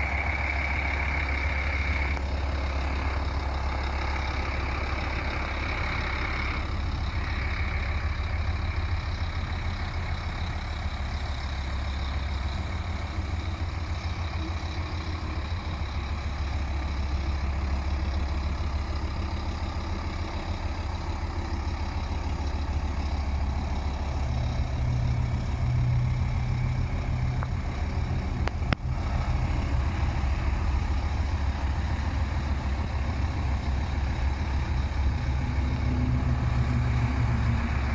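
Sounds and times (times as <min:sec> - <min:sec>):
truck diesel engine idling: 0:00.0 - 0:37.9.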